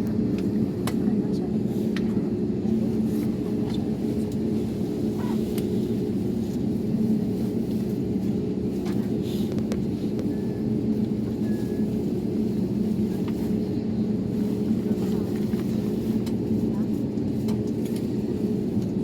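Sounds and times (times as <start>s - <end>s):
aircraft engines droning in cabin: 0.0s - 19.0s.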